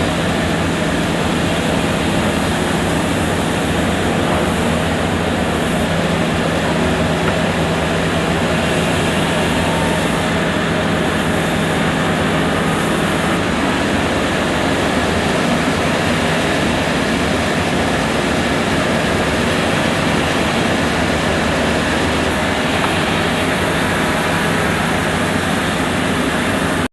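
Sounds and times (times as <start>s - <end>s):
machinery droning: 0.0s - 26.9s.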